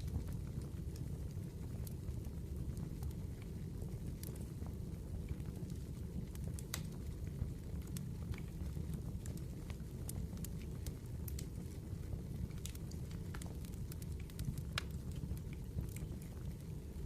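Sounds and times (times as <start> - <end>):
fire low rumble: 0.0 - 17.0
firewood crackling and popping: 0.0 - 17.0.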